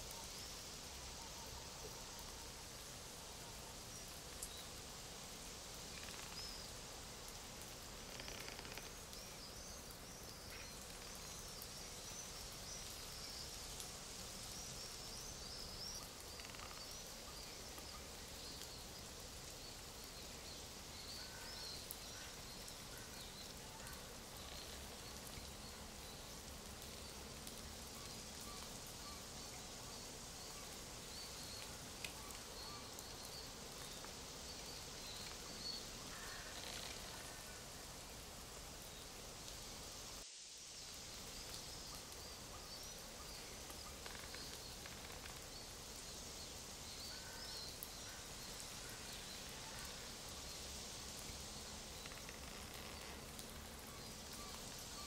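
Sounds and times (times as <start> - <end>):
songbirds chirping: 0.0 - 40.2, 40.9 - 55.0
rustling leaves: 0.0 - 55.0.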